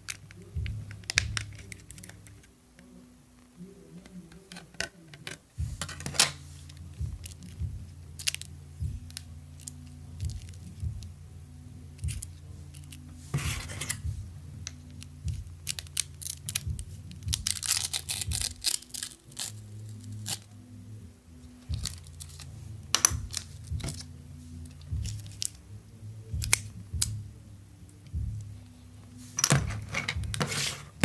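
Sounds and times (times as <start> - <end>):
background music with low notes: 0.0 - 31.0.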